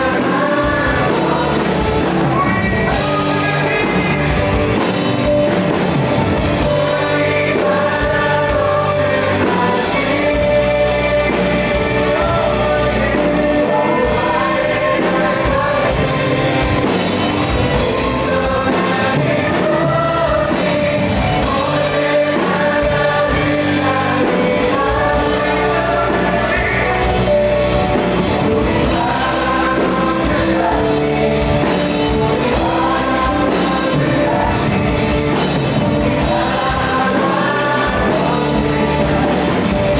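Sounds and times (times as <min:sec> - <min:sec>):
voices singing together: 0:00.0 - 0:39.9
worship band playing: 0:00.0 - 0:39.9.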